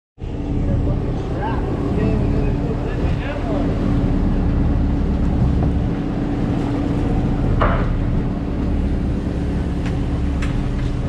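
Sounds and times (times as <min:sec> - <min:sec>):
boat engine humming: 0:00.2 - 0:11.0.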